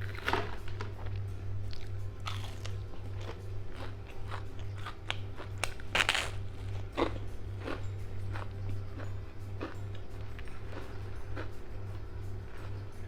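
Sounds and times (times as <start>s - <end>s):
crunchy food chewing: 0.0s - 13.0s
steady low hum: 0.0s - 13.0s.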